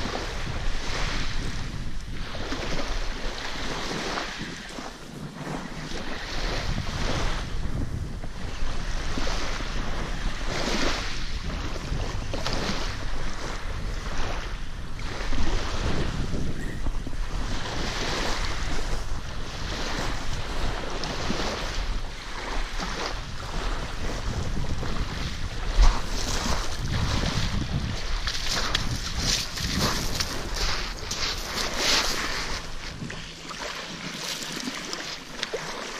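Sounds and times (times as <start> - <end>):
waves lapping on pebble beach: 0.0 - 7.8, 8.4 - 16.5, 17.2 - 35.9
wind buffeting microphone: 0.0 - 34.7.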